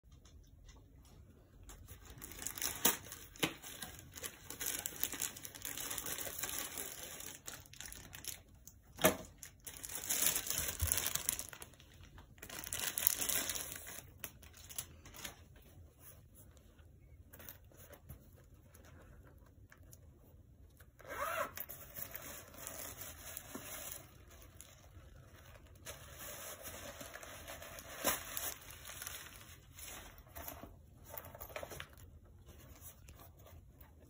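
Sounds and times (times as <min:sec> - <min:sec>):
packaging crinkling and rustling: 0:01.7 - 0:16.1, 0:20.9 - 0:34.0.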